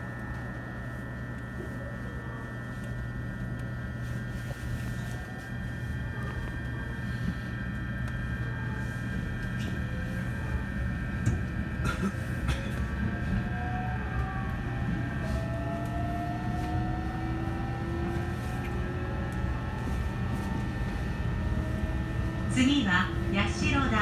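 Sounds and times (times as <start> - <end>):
rising train whine: 0.0 - 24.0.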